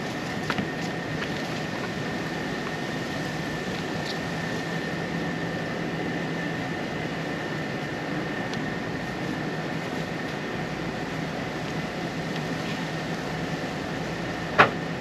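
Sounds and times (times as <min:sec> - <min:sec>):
high-pitched mechanical whine: 0:00.0 - 0:15.0.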